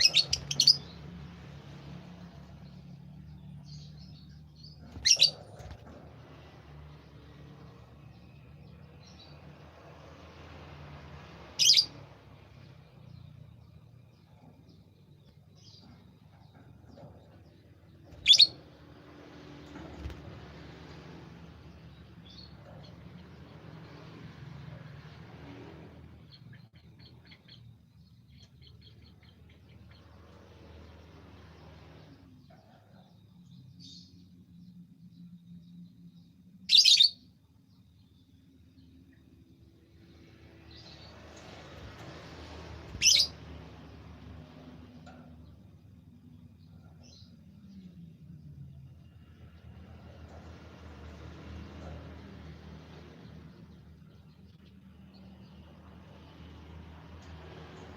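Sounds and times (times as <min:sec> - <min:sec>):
bird chirping: 0:00.0 - 0:50.4.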